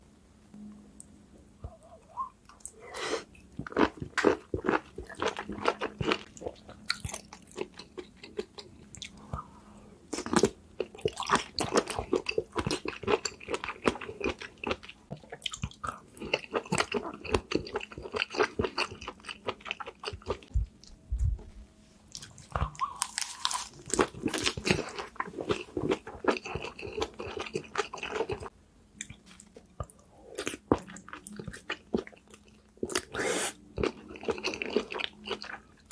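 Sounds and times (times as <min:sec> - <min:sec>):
wet chewing and smacking: 0:02.5 - 0:09.4, 0:10.1 - 0:21.0, 0:22.1 - 0:35.9.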